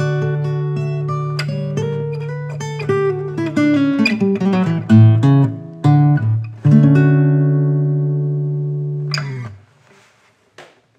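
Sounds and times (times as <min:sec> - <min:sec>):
acoustic guitar picking: 0:00.0 - 0:09.8.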